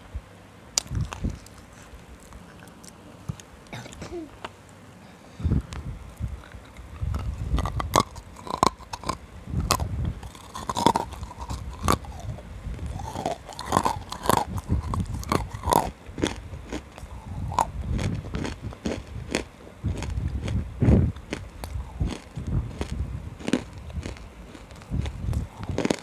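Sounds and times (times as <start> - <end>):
chewing: 0.8 - 4.0, 5.7 - 20.6, 21.2 - 26.0
crunching hard food: 0.8 - 4.6, 5.6 - 26.0.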